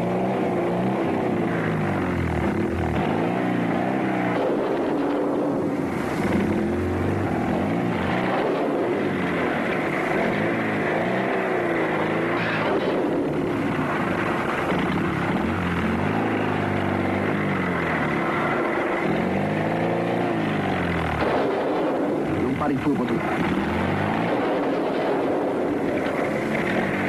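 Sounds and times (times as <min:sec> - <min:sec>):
constant rushing noise: 0:00.0 - 0:27.0
vehicle engine running: 0:00.0 - 0:27.0.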